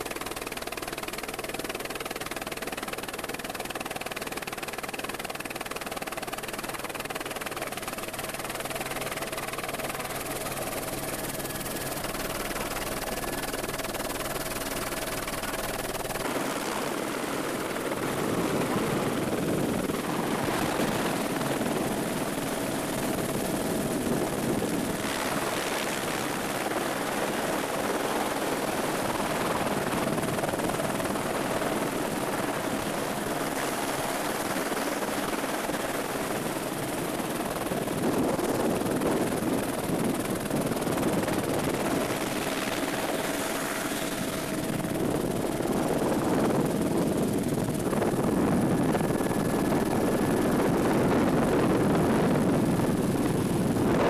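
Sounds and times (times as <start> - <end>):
faint steady whine: 0.0 - 54.0
helicopter rotor and engine noise: 0.0 - 54.0.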